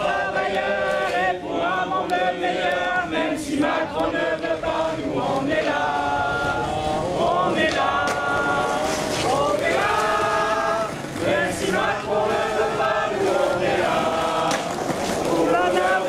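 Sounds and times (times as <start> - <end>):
group singing slow song: 0.0 - 16.0.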